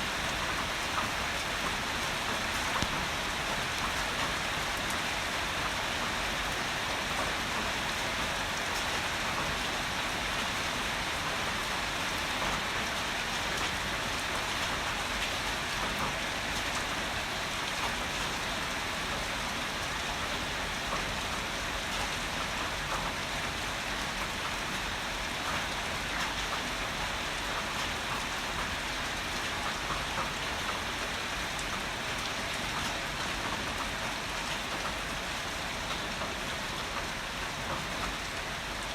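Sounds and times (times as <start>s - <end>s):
heavy rain falling: 0.0s - 38.9s
raindrops striking a surface: 0.0s - 38.9s.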